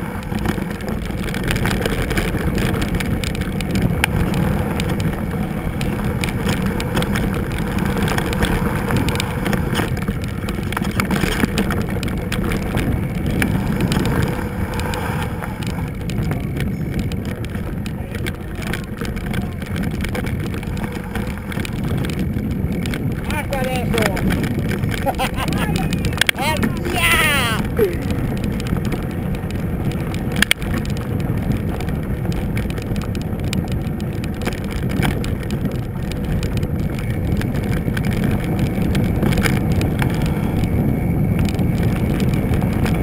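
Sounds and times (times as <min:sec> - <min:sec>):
bike tyres rumbling on gravel: 0:00.0 - 0:43.0
small clicks and rattles: 0:00.0 - 0:43.0.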